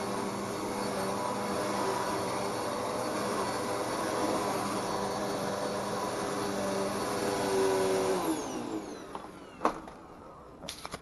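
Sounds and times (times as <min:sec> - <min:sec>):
vacuum cleaner motor whine: 0:00.0 - 0:10.8.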